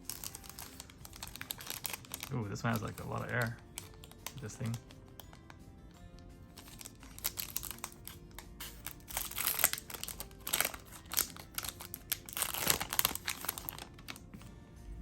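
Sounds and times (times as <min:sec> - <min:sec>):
foil wrapper crinkling: 0:00.0 - 0:05.6, 0:06.5 - 0:14.3.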